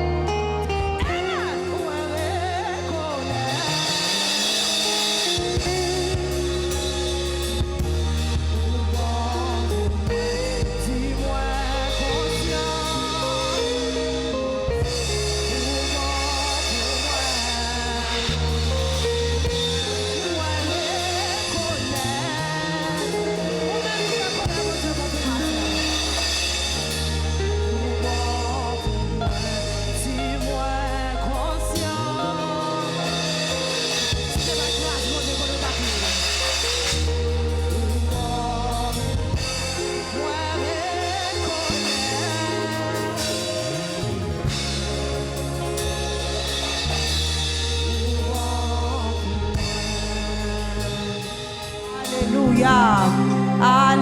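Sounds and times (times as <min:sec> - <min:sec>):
people singing: 0:00.0 - 0:46.0, 0:46.6 - 0:54.0
bass guitar: 0:00.0 - 0:54.0
drum kit: 0:00.0 - 0:54.0.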